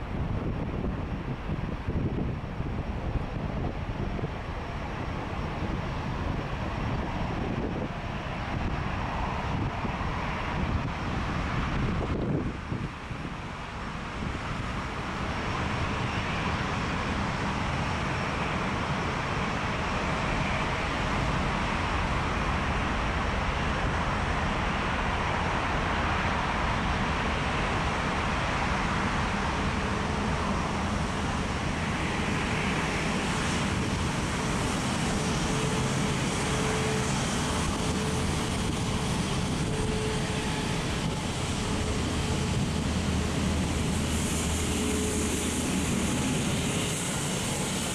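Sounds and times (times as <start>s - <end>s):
faint engine whine: 0.0s - 47.9s
jet engines rushing: 0.0s - 47.9s.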